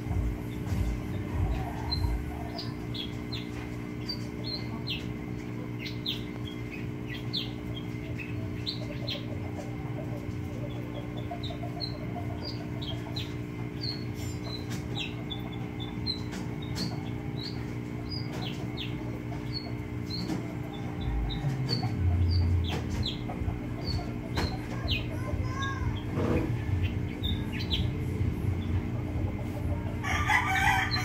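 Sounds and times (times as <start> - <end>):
steady low hum: 0.0 - 31.0
bird chirping: 0.1 - 9.7, 10.5 - 29.8.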